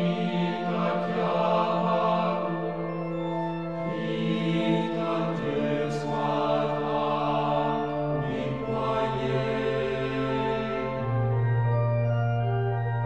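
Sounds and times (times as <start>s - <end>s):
choir-like held chords: 0.0s - 13.0s.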